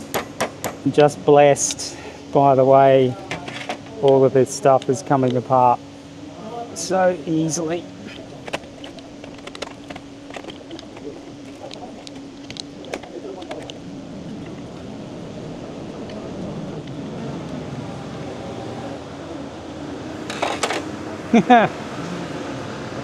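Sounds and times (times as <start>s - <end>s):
workshop hum: 0.0s - 23.0s.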